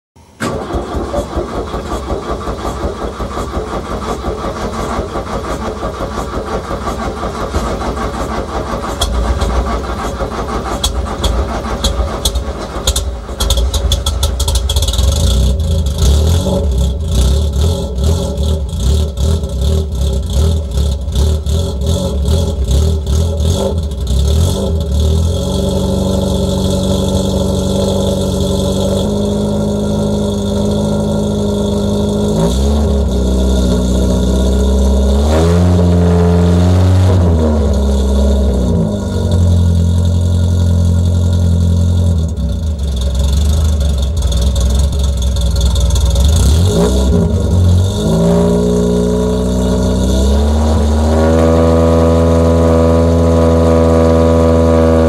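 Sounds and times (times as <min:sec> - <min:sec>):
car engine running and idling: 0:00.2 - 0:55.0.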